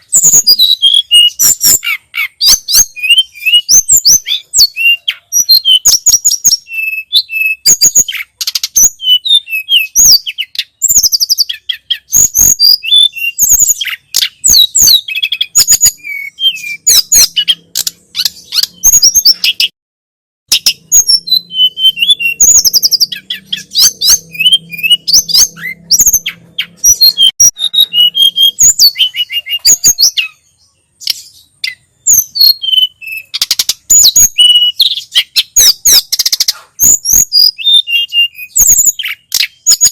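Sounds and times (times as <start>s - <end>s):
songbird singing: 0.0s - 19.8s, 20.5s - 39.9s.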